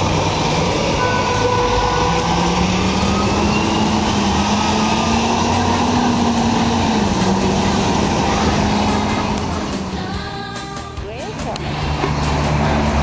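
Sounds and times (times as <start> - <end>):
bus engine droning past: 0.0 - 13.0
traffic noise: 0.0 - 13.0.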